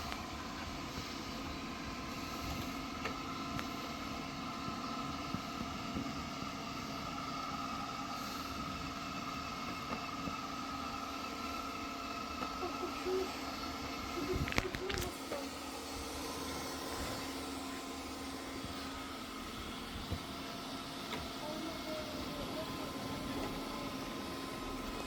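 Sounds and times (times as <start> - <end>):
robot vacuum motor whine: 0.0 - 25.0.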